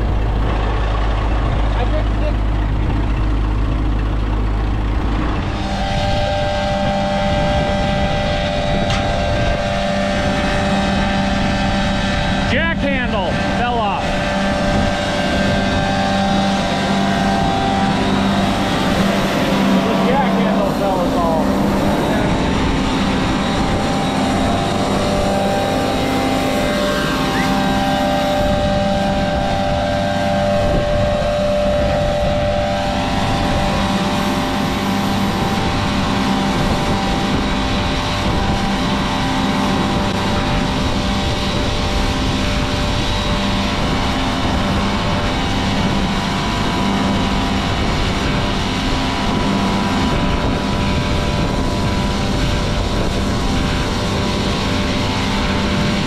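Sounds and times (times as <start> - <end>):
high-pitched whine: 0.0 - 56.0
tractor engine running: 0.0 - 56.0.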